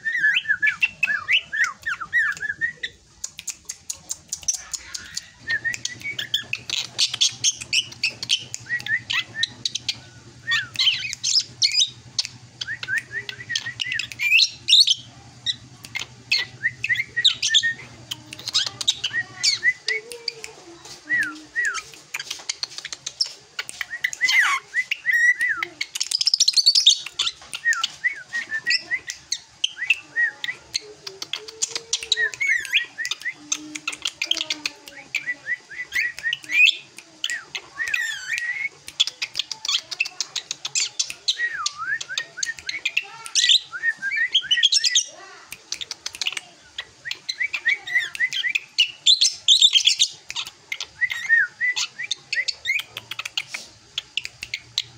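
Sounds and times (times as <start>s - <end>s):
bird singing chirps and whistles: 0.0s - 3.0s, 4.4s - 20.5s, 21.1s - 45.2s, 45.8s - 54.9s.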